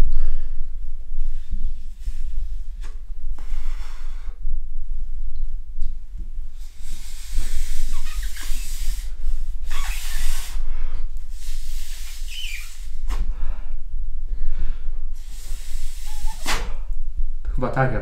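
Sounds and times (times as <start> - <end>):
breathy hissing puffs: 0.0 - 4.5, 6.5 - 17.2
steady low hum: 0.0 - 18.0.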